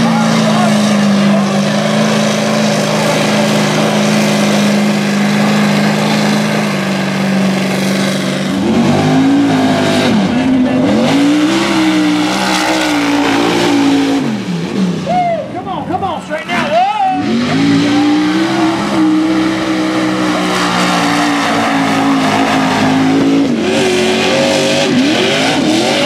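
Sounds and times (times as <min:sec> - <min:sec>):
racing truck engine revving: 0:00.0 - 0:26.0.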